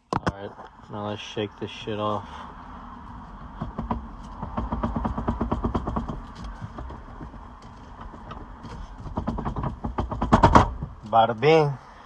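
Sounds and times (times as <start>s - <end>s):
steering wheel clunking and rattling: 0.0s - 11.6s.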